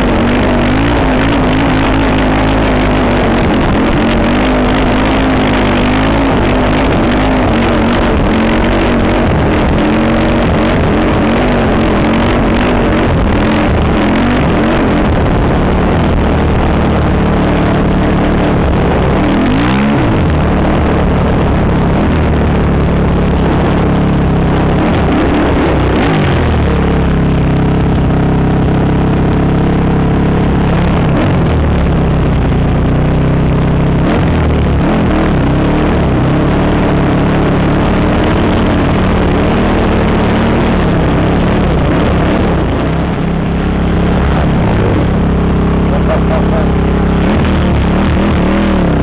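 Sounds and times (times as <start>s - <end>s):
quad engine revving: 0.0s - 49.0s.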